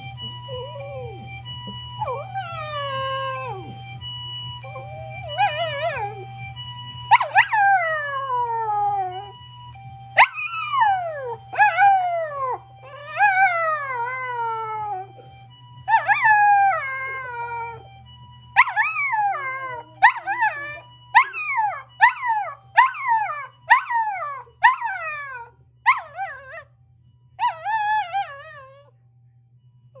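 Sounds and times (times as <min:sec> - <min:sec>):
small dogs howling: 0:00.0 - 0:03.9, 0:04.6 - 0:06.4, 0:07.1 - 0:09.4, 0:10.2 - 0:15.2, 0:15.9 - 0:17.8, 0:18.6 - 0:26.6, 0:27.4 - 0:28.9
faint two-tone ambulance siren: 0:00.0 - 0:30.0.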